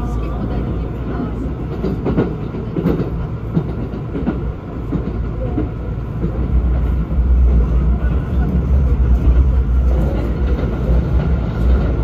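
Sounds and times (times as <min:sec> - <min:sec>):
train cabin rumble: 0:00.0 - 0:12.0
wheels clacking over rail joints: 0:00.0 - 0:12.0.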